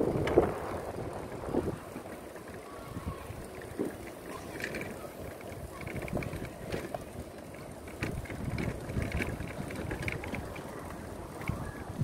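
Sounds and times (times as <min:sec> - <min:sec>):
go-kart wheels rumbling: 0:00.0 - 0:12.0.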